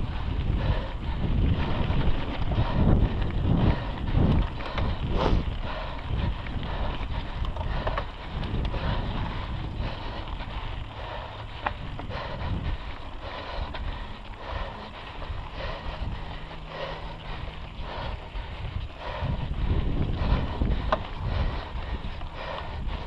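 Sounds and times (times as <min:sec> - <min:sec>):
bike rattling over bumps: 0:00.0 - 0:23.0
knobby tyres on dirt: 0:00.0 - 0:23.0
wind buffeting microphone: 0:00.0 - 0:23.0.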